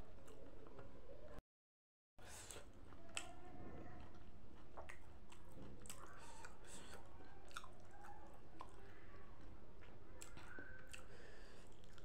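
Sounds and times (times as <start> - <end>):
person chewing food: 2.2 - 12.0.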